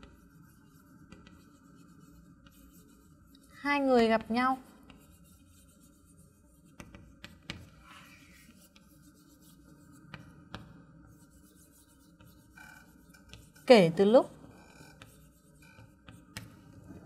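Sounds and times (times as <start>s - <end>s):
chalk scratching on chalkboard: 0.0s - 17.0s
chalk taps: 0.0s - 17.0s.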